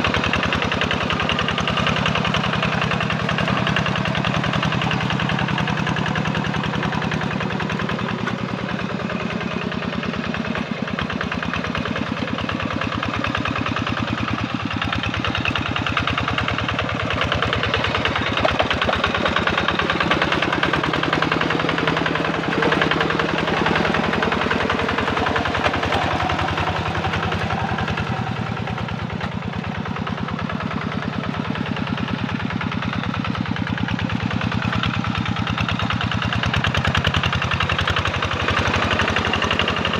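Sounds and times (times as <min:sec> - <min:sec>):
diesel engine knocking under load: 0:00.0 - 0:39.9.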